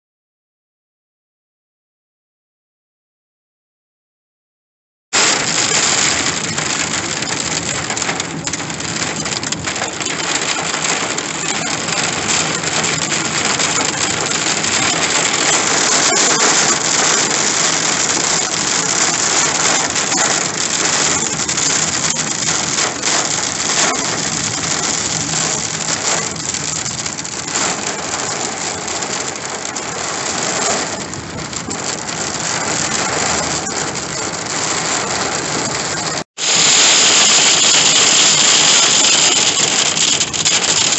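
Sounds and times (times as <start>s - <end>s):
heavy rain on car roof: 5.2s - 40.9s.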